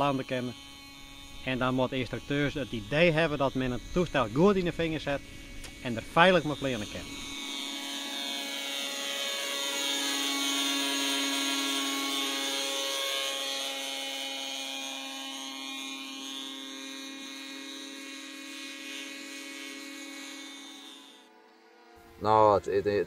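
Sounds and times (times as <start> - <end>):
model helicopter whining: 0.0 - 23.0.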